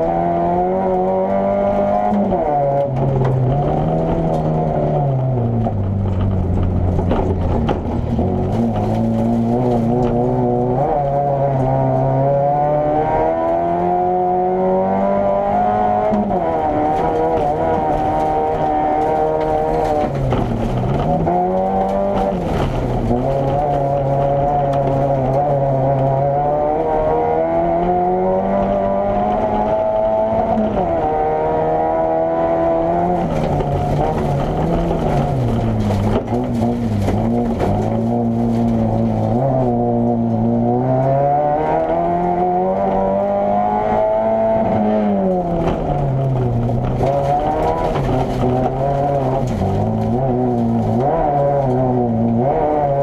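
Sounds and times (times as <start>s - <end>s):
car engine revving hard: 0.0s - 53.0s.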